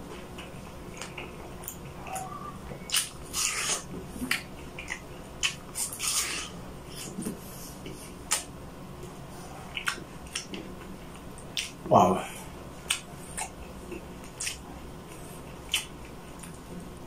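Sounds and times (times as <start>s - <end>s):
person chewing juicy fruit: 0.0s - 17.0s.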